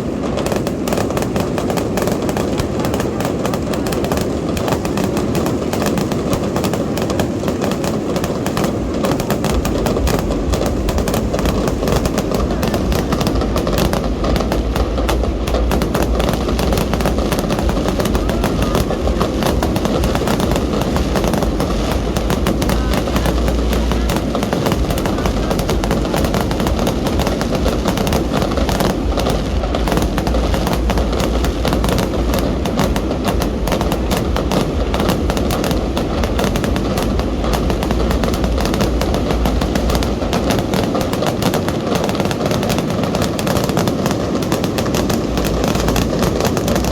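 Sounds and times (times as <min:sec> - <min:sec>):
deep rumble: 0:00.0 - 0:43.5, 0:44.2 - 0:46.9
fireworks bangs and crackling: 0:00.0 - 0:46.9.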